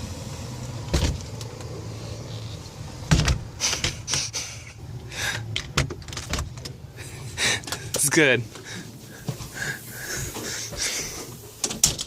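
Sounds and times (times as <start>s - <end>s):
car hum: 0.0s - 12.0s.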